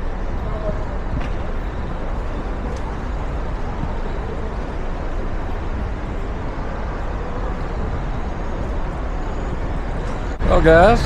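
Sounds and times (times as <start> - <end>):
outdoor background rumble and hiss: 0.0 - 11.0.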